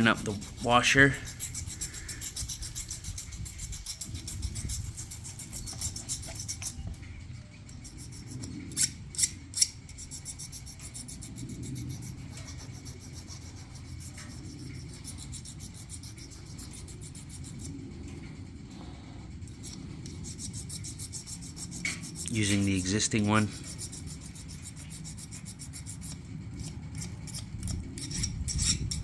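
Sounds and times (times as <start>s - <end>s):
scratchy rubbing of metal washer: 0.0s - 7.0s, 7.7s - 18.3s, 18.9s - 29.0s.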